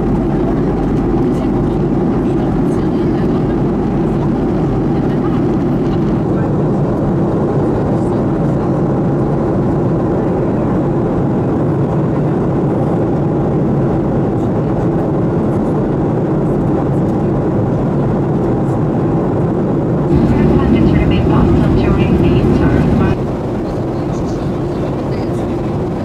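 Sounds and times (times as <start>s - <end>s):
airplane cabin hum: 0.0s - 26.0s.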